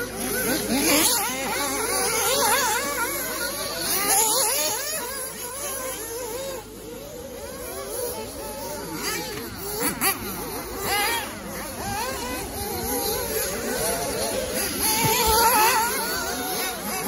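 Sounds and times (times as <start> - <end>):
rc car engines revving: 0.0 - 17.0.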